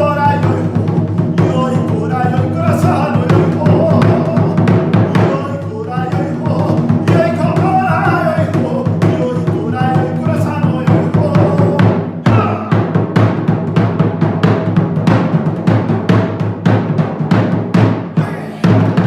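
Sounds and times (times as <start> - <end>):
folk-style drumming: 0.0 - 19.0.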